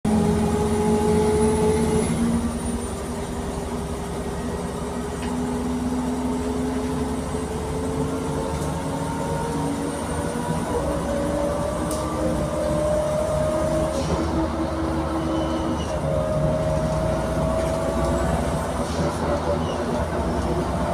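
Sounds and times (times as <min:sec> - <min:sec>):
bus engine rumble: 0:00.1 - 0:20.9.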